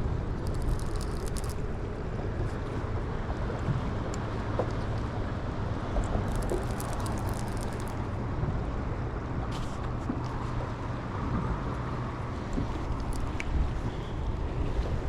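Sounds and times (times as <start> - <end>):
moving river water: 0.0 - 15.0
wind: 0.0 - 15.0.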